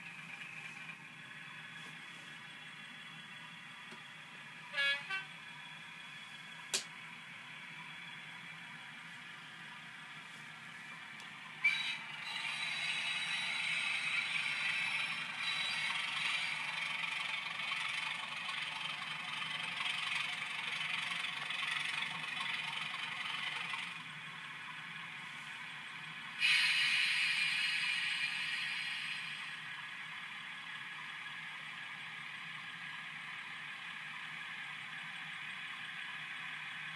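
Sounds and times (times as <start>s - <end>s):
model train diesel engine sound: 0.0s - 36.9s.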